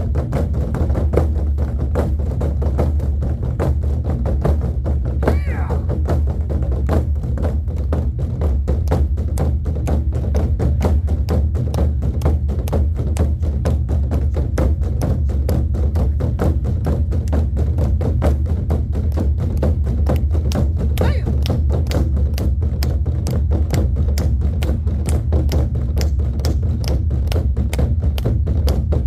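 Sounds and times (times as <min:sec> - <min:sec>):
drums beating fast: 0:00.0 - 0:29.0.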